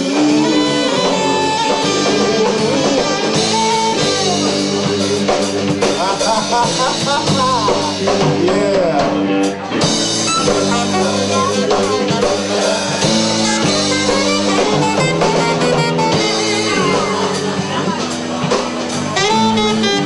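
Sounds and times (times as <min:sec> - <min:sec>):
saxophone: 0:00.0 - 0:08.0, 0:10.0 - 0:20.0
drum kit: 0:00.0 - 0:20.0
electric guitar: 0:00.0 - 0:20.0.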